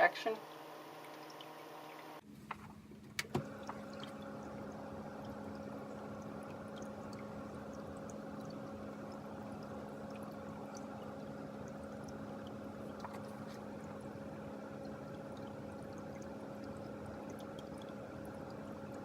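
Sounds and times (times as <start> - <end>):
fan humming: 0.0 - 19.0
light water splashing: 3.2 - 19.0
foggers churning water: 3.3 - 19.0.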